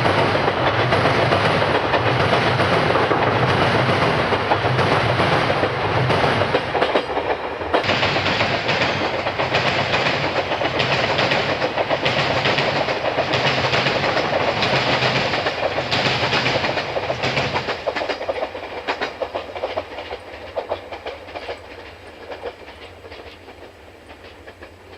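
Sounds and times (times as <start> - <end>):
electric train passing: 0.0 - 24.9
train wheels clacking: 0.0 - 24.9.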